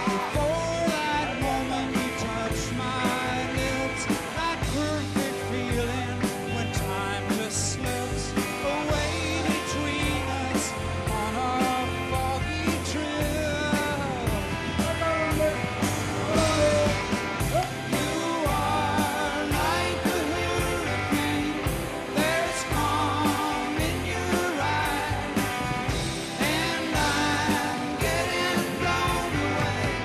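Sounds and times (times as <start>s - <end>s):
rock song with vocals: 0.0s - 30.0s.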